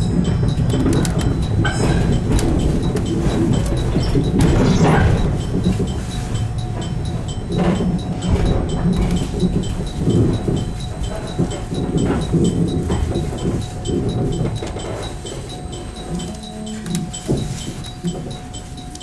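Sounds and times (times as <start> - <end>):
faint ticking: 0.0 - 19.0
train wheels rumbling: 0.0 - 19.0.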